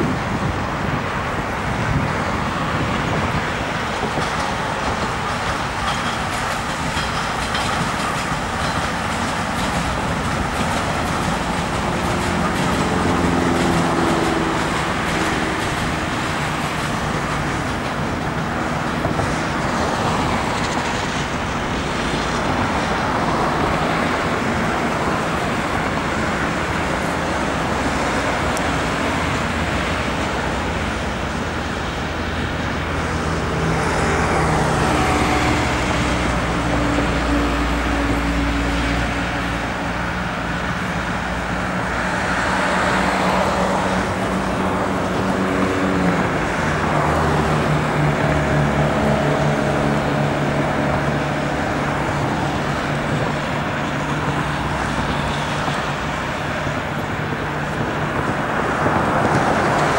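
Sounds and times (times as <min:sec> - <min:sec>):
metro train passing: 0:00.0 - 0:59.9
road traffic rumble: 0:00.0 - 0:59.9.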